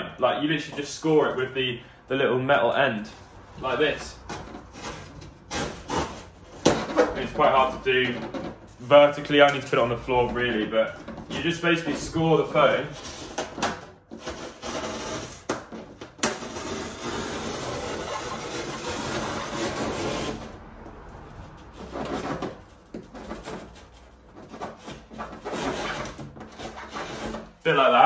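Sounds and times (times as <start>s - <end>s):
metal hook scraping foam board: 3.1s - 20.6s, 21.4s - 28.0s.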